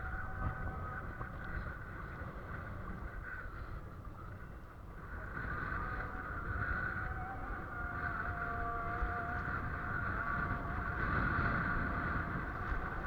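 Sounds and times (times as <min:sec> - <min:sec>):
motor running with whine: 0:00.0 - 0:13.0
wind rumble on microphone: 0:00.0 - 0:13.0.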